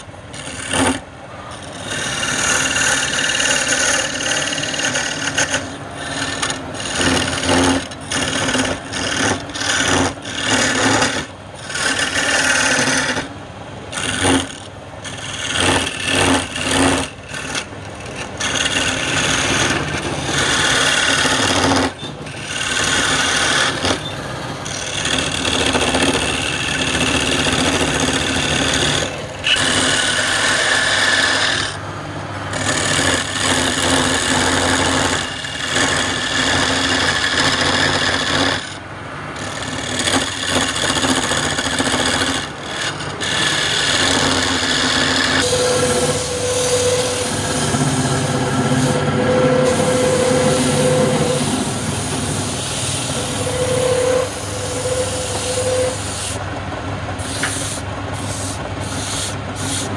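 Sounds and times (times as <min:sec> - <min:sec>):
chisel scraping spinning wood: 0:00.0 - 0:31.8, 0:32.4 - 0:56.4, 0:57.2 - 0:59.9
lathe motor hum: 0:00.0 - 0:59.9.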